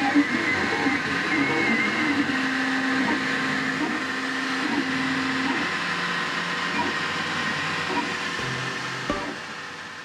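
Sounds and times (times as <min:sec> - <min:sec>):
cooling fans whining: 0:00.0 - 0:10.0.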